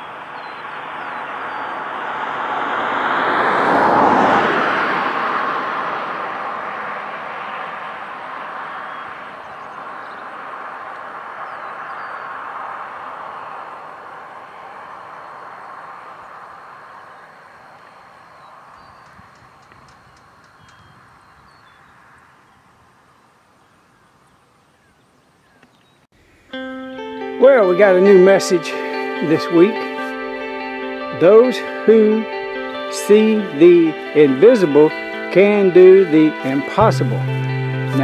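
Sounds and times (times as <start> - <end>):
passing vehicle road noise: 0.0 - 23.5, 26.2 - 38.0.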